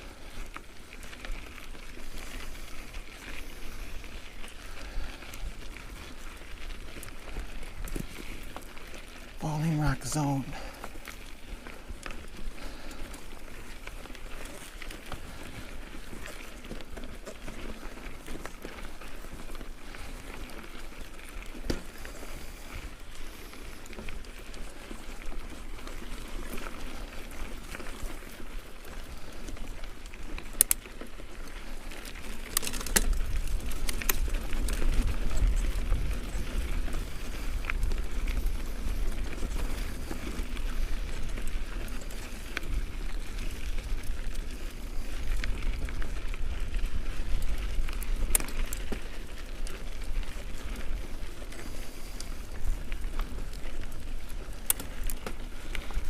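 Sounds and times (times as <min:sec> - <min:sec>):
bike tyres crunching on gravel: 0:00.0 - 0:56.0.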